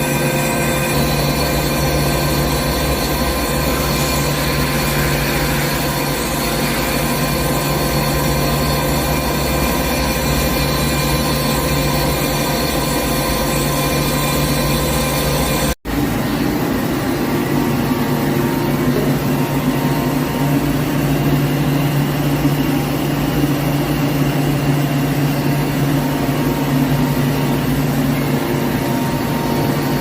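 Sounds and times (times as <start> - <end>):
lathe machine hum: 0.0 - 30.0.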